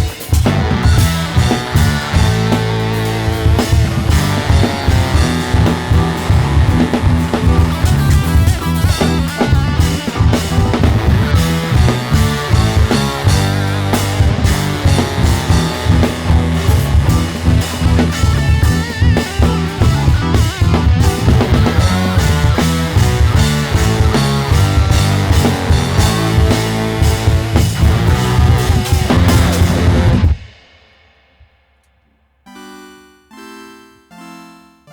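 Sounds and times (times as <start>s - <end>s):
electric guitar: 0.0s - 30.5s
heavy bass line: 0.0s - 30.5s
drum kit: 0.0s - 31.9s.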